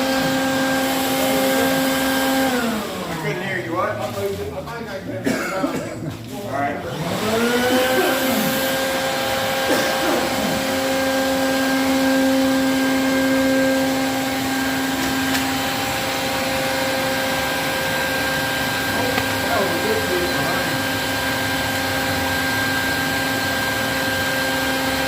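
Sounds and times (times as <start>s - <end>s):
electric motor whining: 0.0s - 4.4s, 6.7s - 25.0s.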